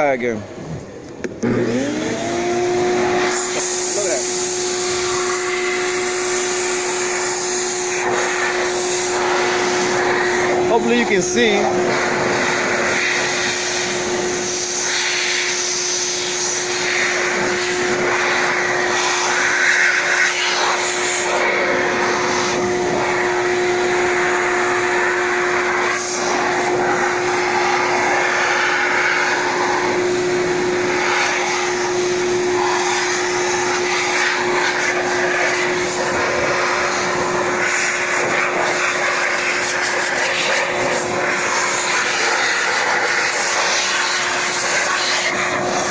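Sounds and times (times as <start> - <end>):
electric blower running: 0.0 - 45.9.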